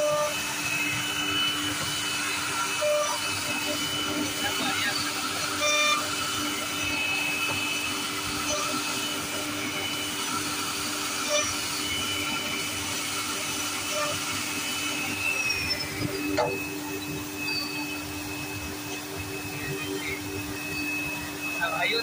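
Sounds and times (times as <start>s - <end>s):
machine hum and hiss: 0.0s - 22.0s
machine spindle whine: 0.0s - 22.0s.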